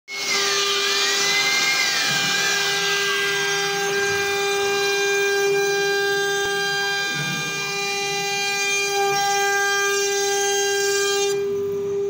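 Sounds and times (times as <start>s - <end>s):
router bits cutting wood: 0.1s - 11.6s
wood router spindles whining: 0.1s - 12.0s.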